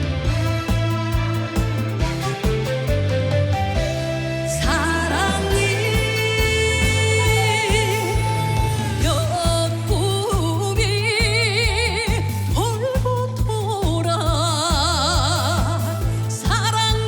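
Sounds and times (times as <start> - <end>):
band with bass and drums: 0.0 - 17.0.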